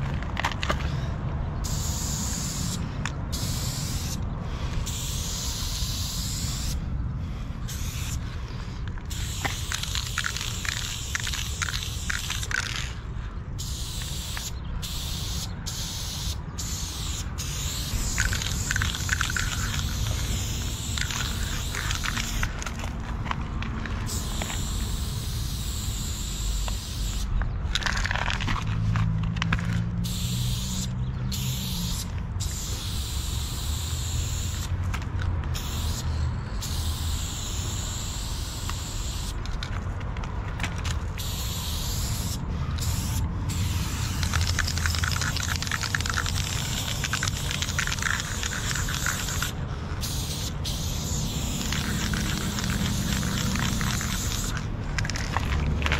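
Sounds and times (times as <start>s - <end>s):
spray paint can hissing: 1.6s - 6.9s, 7.7s - 39.8s, 40.6s - 55.9s.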